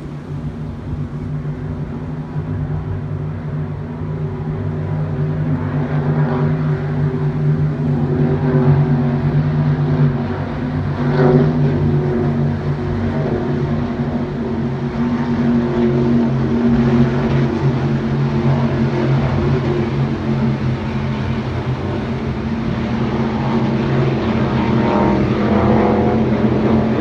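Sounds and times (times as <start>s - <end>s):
powerboat engines droning: 0.0s - 27.0s.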